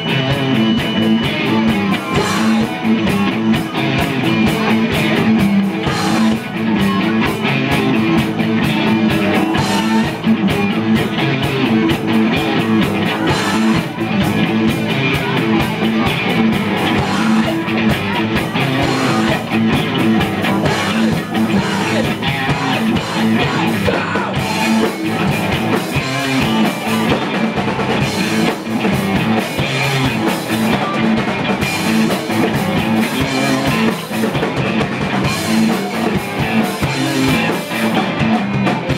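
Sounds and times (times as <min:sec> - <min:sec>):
bass guitar: 0:00.0 - 0:38.9
drum kit: 0:00.0 - 0:38.9
electric guitars: 0:00.0 - 0:38.9.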